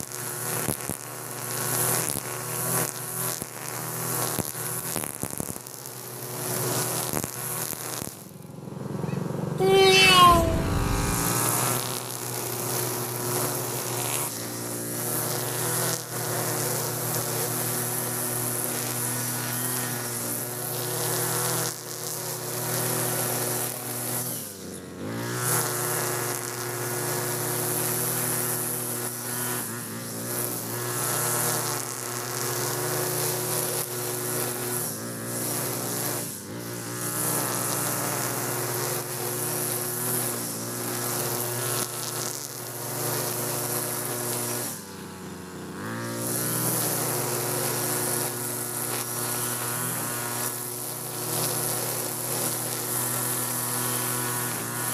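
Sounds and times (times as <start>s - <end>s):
brush cutter cutting grass: 0.1s - 8.6s, 9.6s - 54.9s.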